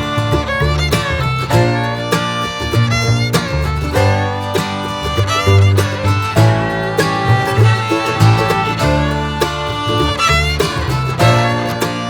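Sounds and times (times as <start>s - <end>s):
bluegrass tune with fiddle and guitar: 0.0s - 12.0s.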